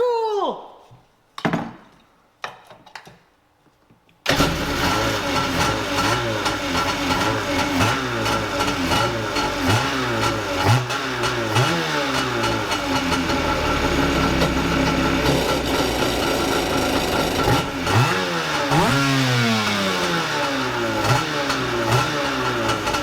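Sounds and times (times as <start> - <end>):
jet ski engine revving: 4.3 - 23.0.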